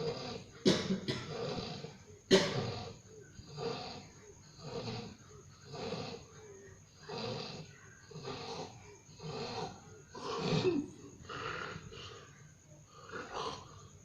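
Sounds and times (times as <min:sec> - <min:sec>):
person snoring: 0:00.0 - 0:14.0.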